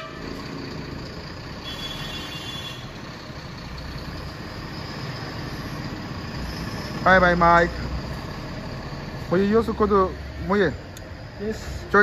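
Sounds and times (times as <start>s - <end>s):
coach engine rumbling: 0.0s - 12.0s.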